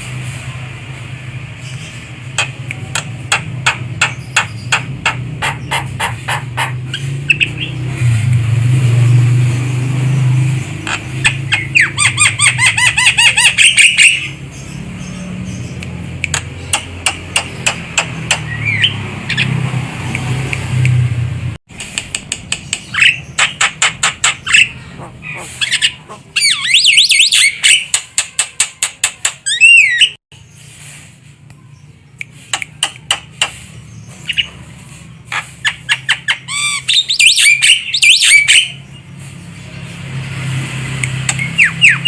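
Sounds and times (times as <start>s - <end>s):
myna bird clicks and chatter: 1.6s - 8.5s, 10.8s - 21.0s, 21.8s - 40.0s, 41.0s - 42.0s.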